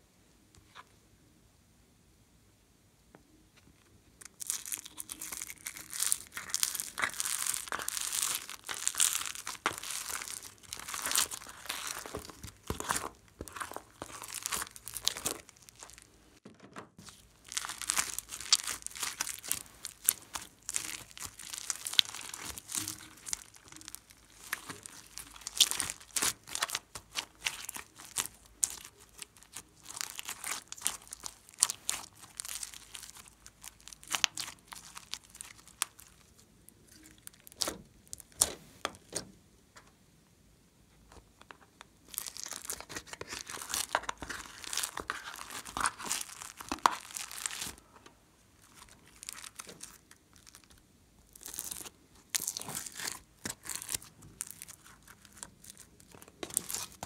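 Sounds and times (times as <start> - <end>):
foam bead slime crackling: 4.2 - 16.4, 17.0 - 39.2, 42.0 - 57.0.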